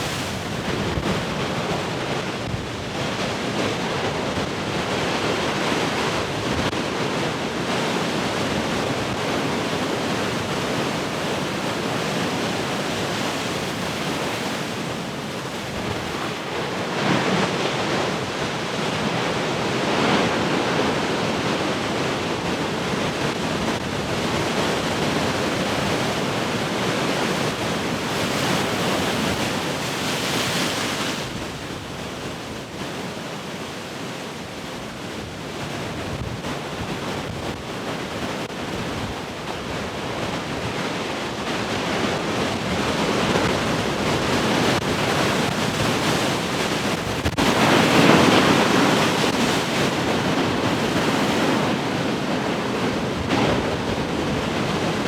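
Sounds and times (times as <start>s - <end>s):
wind buffeting microphone: 0.0s - 33.0s, 34.9s - 55.0s
large waves breaking: 0.0s - 55.0s.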